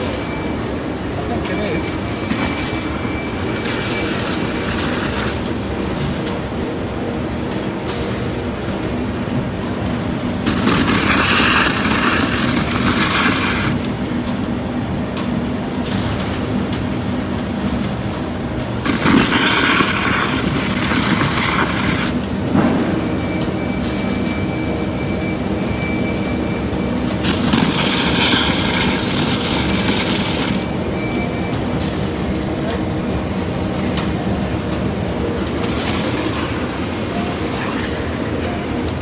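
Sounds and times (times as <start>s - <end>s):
loud rushing noise: 0.0s - 38.5s.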